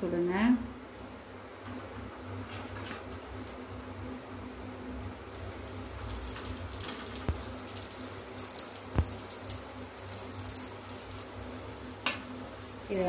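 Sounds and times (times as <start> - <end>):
dough sizzling in oil: 0.0 - 13.0.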